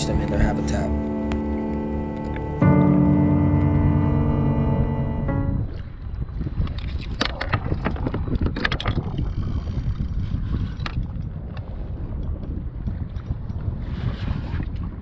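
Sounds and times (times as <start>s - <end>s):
water washing against hull: 0.0s - 15.0s
wind buffeting microphone: 0.0s - 15.0s.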